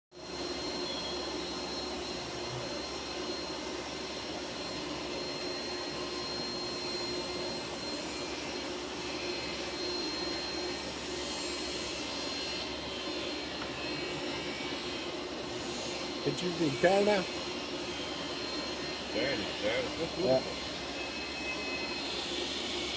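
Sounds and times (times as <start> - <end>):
machinery high whine: 0.1 - 22.9.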